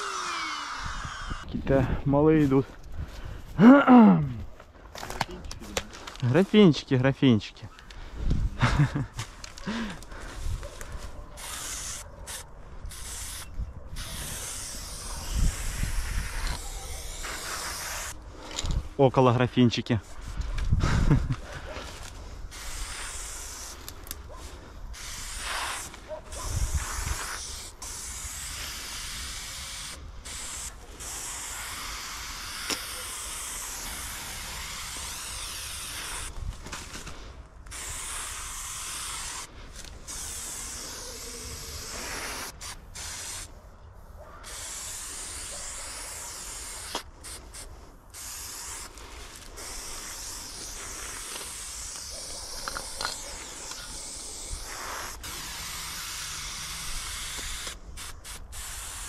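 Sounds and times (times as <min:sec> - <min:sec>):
spray paint can hissing: 0:00.0 - 0:01.5, 0:08.8 - 0:18.5, 0:21.3 - 0:43.5, 0:44.4 - 0:59.0.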